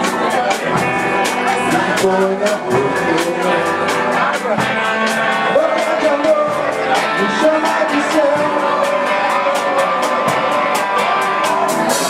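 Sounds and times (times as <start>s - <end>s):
rock band playing live: 0.0s - 12.0s.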